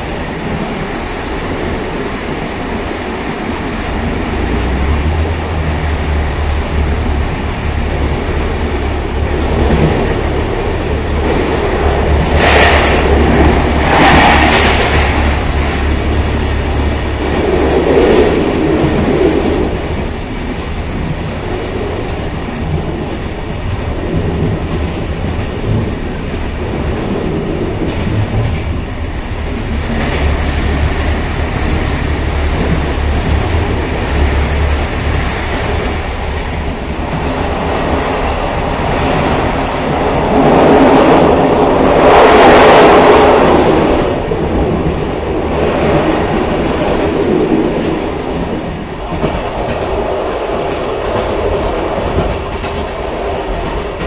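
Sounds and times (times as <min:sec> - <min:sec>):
railcar rolling rumble: 0:00.0 - 0:54.0.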